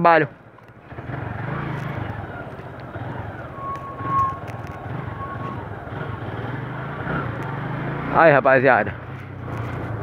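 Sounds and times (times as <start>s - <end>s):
motorcycle engine running: 0.2s - 10.0s.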